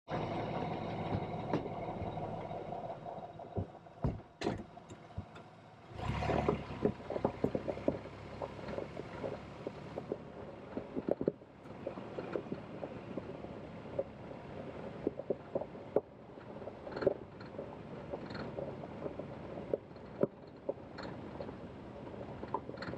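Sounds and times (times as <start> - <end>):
vehicle engine humming: 0.1 - 22.9
tyres crunching gravel: 0.2 - 22.9.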